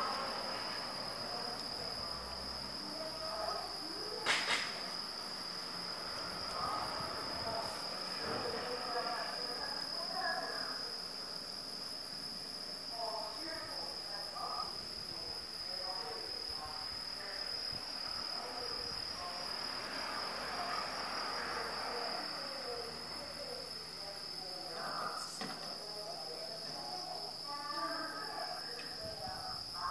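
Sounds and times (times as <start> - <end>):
crickets trilling: 0.0 - 29.9.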